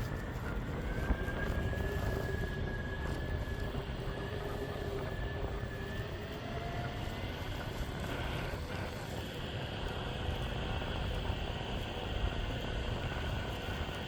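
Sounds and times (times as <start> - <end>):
electric motor whine: 0.0 - 14.0
wheels rumbling on pavement: 0.0 - 14.0.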